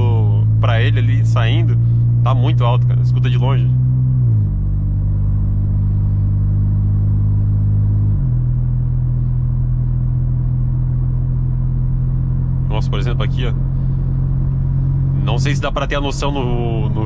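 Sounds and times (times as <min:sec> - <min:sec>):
loud car engine drone in cabin: 0:00.0 - 0:17.0.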